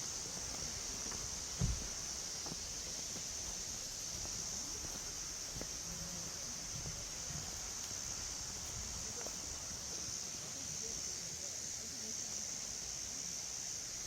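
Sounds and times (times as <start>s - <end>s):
insects droning in chorus: 0.0s - 14.0s.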